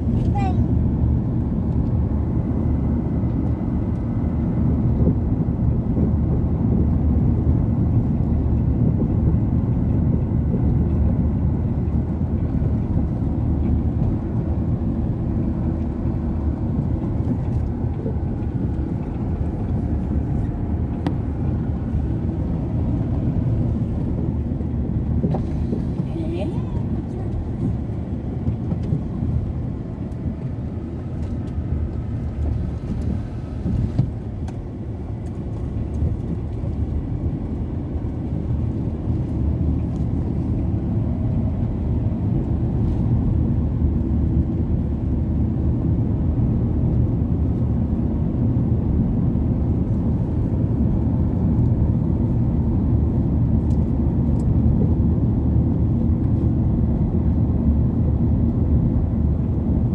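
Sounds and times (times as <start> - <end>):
road vehicle low rumble: 0.0 - 59.9.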